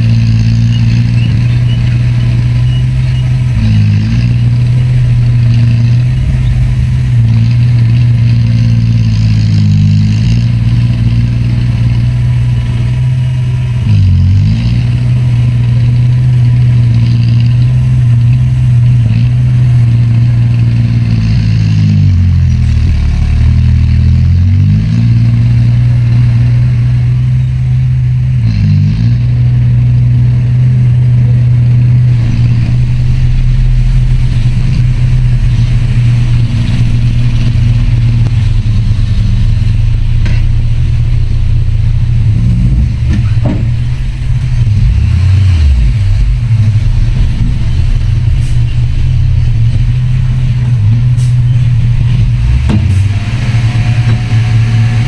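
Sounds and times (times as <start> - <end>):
heavy diesel engine under load: 0.0 - 55.0.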